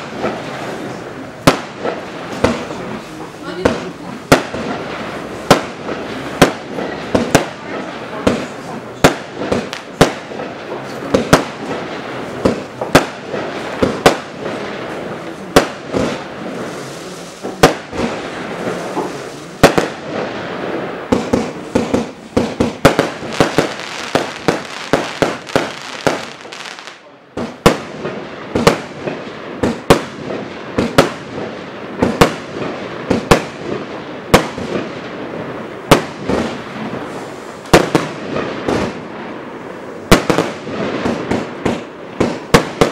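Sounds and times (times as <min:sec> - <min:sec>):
firework bangs: 0:00.0 - 0:42.9
firework crackle and hiss: 0:00.0 - 0:42.9.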